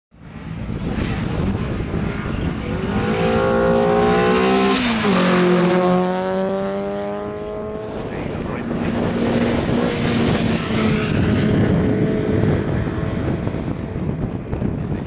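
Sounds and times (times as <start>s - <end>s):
race car engine passing by: 0.3s - 14.4s.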